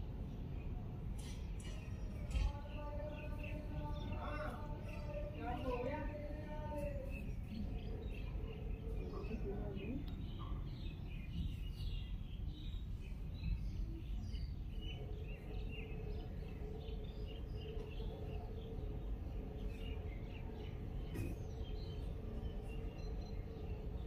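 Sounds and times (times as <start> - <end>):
small birds chirping: 0.0 - 24.0
steady low hum: 0.0 - 24.0
steady low rumble: 0.0 - 24.0.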